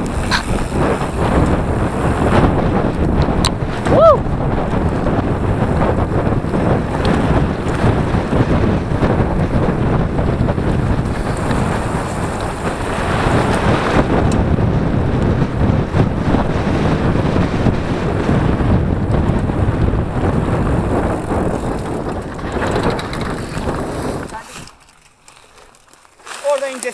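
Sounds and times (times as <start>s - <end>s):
wind buffeting microphone: 0.0s - 25.7s.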